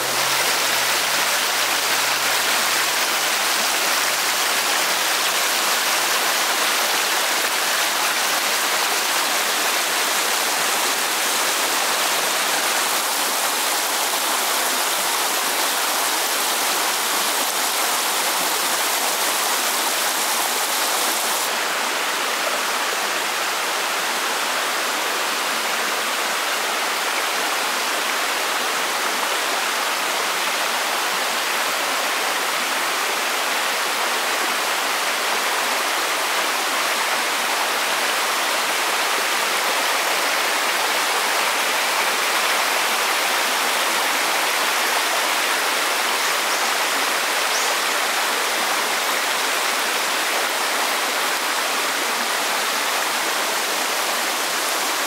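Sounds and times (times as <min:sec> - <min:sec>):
forest stream rushing: 0:00.0 - 0:55.0.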